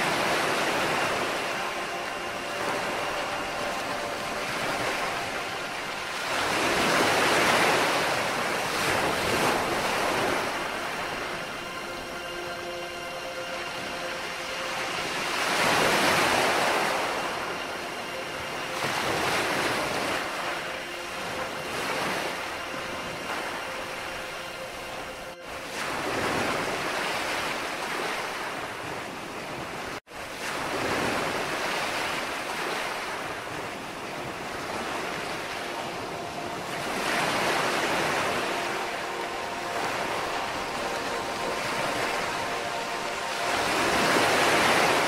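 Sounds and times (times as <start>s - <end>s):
waves washing in and drawing back: 0.0s - 45.0s.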